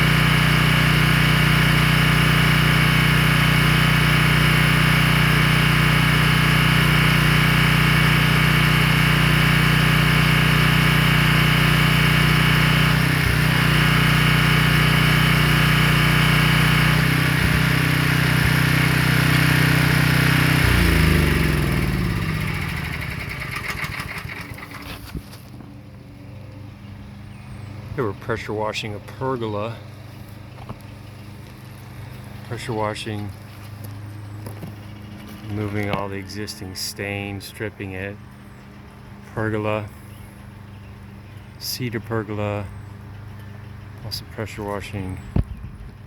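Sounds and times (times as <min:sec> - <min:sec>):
pressure washer engine running: 0:00.0 - 0:45.6.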